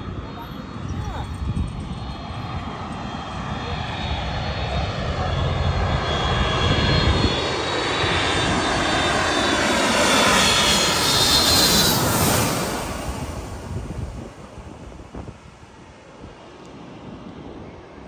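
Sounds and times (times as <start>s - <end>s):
high jet engine whine: 0.0s - 18.0s
jet airliner passing overhead: 0.0s - 18.0s.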